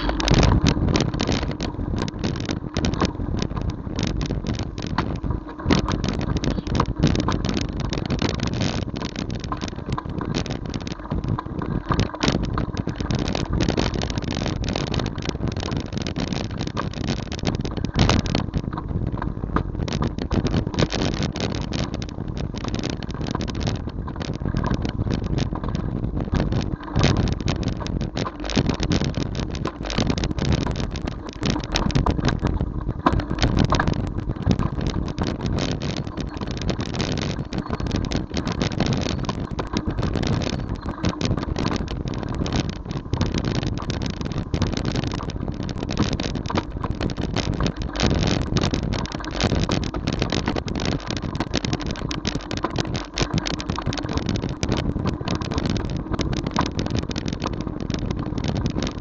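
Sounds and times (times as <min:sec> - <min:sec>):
vehicle rumble on rough lane: 0:00.0 - 0:59.0
wind on microphone: 0:00.0 - 0:59.0.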